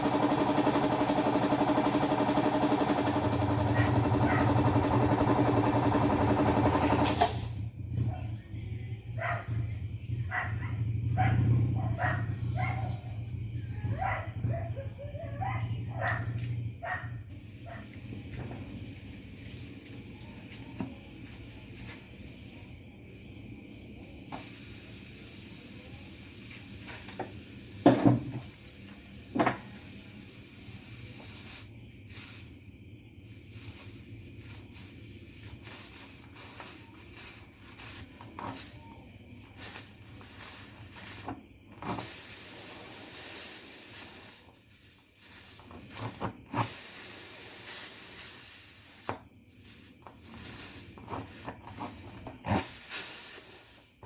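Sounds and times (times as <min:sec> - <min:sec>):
air hissing: 0:00.0 - 0:07.7, 0:17.3 - 0:54.0
high insect-like chirring: 0:00.6 - 0:06.8, 0:07.4 - 0:54.0.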